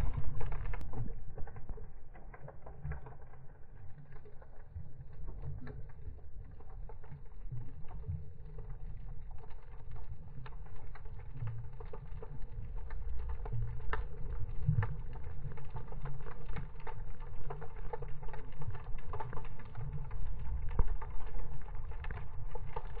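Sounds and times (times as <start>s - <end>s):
crackle of short clicks: 0.0s - 23.0s
underwater rumble of moving water: 0.0s - 23.0s.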